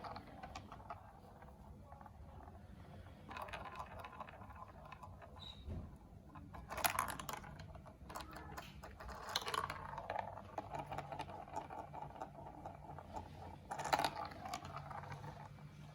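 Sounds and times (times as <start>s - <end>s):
marbles clattering in marble run: 0.0s - 5.4s, 6.3s - 15.9s
marbles rolling rattle: 0.0s - 5.5s, 6.2s - 15.9s.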